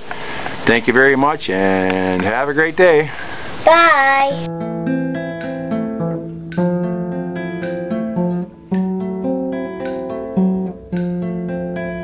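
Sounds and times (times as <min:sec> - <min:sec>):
acoustic guitar music: 0:01.7 - 0:12.0.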